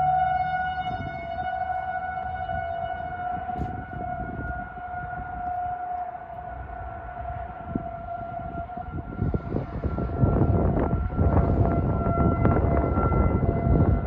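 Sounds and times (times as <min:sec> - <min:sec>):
gusty low rumble: 0:00.0 - 0:14.0
tornado siren steady tone: 0:00.0 - 0:14.0.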